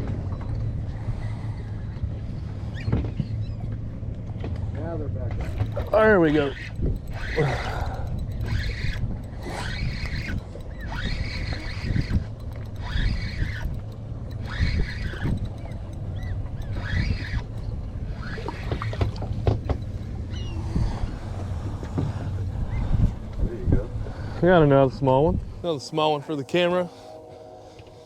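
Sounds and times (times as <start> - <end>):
wind rumbling on microphone: 0.0 - 25.7.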